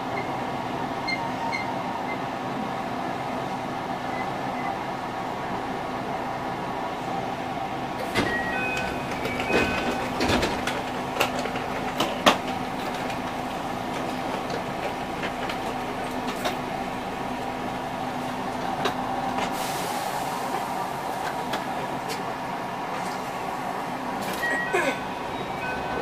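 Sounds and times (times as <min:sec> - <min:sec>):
train mechanical hum: 0:00.0 - 0:26.0.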